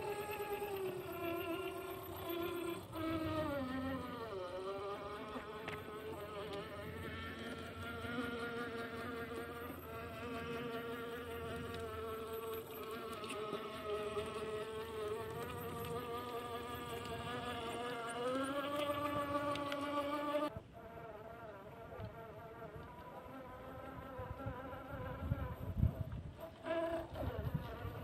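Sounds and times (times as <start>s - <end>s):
electric motor whining: 0.0s - 25.8s.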